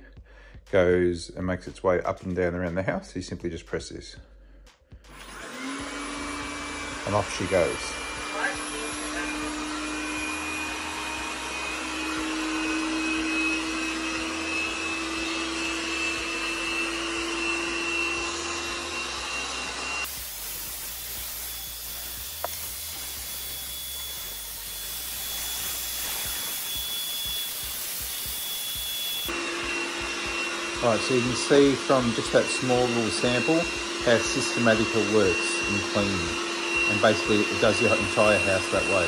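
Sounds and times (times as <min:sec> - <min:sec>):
robot vacuum fan hum and whine: 0:05.1 - 0:39.0.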